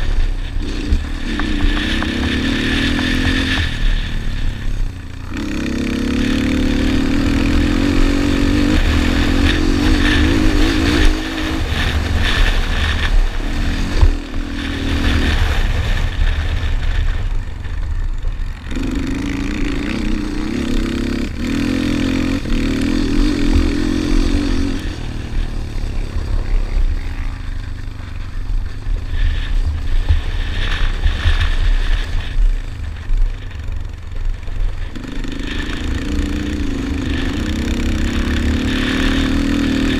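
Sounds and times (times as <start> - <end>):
quad engine revving high: 0.0 - 17.4, 18.4 - 32.4, 33.4 - 39.9
wind noise: 0.0 - 39.9.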